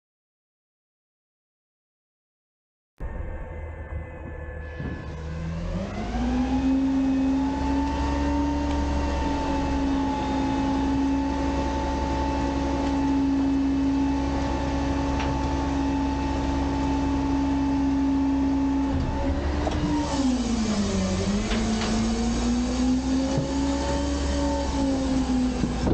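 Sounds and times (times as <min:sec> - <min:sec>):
garbage truck engine: 0:03.0 - 0:25.9
hydraulic packer blade: 0:03.1 - 0:25.9.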